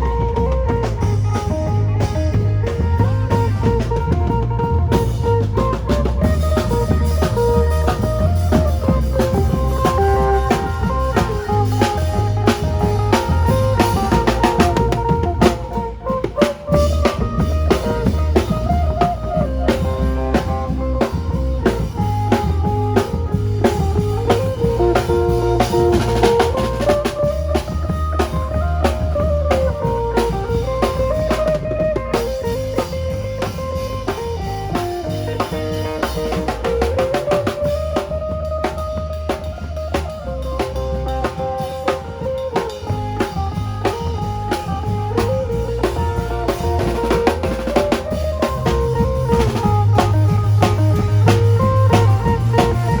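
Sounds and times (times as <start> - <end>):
bass line: 0.0 - 53.0
drum kit: 0.0 - 53.0.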